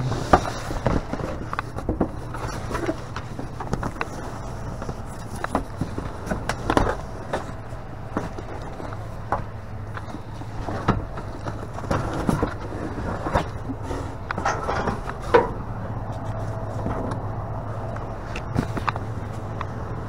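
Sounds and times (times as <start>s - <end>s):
knocks and rustles: 0.0s - 17.3s, 18.3s - 19.8s
boxes handled in a dumpster: 0.0s - 20.0s
steady low hum: 0.0s - 20.0s.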